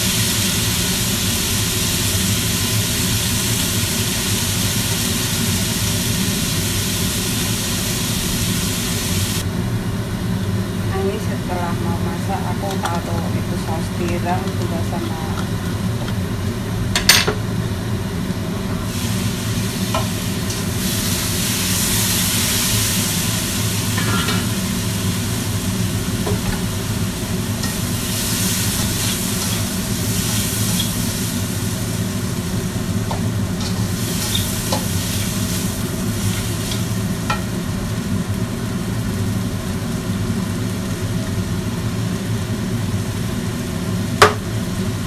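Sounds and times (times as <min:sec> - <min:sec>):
food sizzling in a wok: 0:00.0 - 0:45.0.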